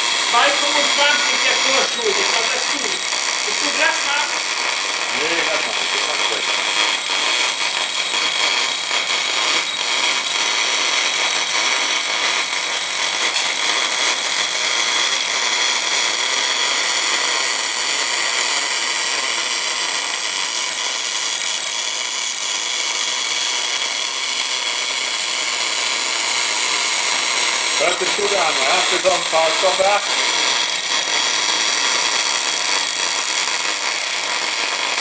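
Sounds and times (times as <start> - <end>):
welding arc hiss and crackle: 0.0 - 35.0.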